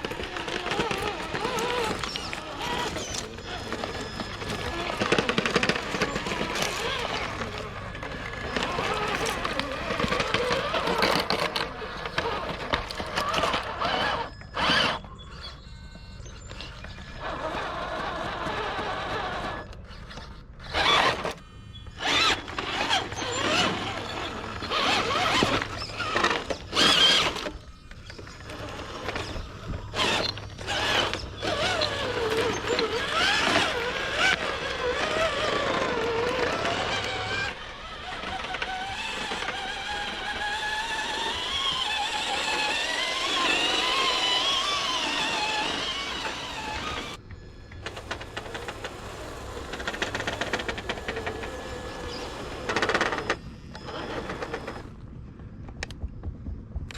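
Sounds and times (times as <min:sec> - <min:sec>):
small electric motor whining: 0:00.0 - 0:55.0.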